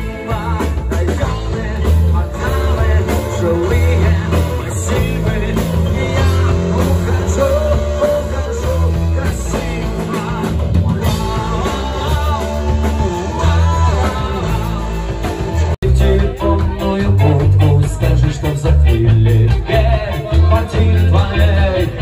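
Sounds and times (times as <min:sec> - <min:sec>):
rock song with singing: 0:00.0 - 0:22.0.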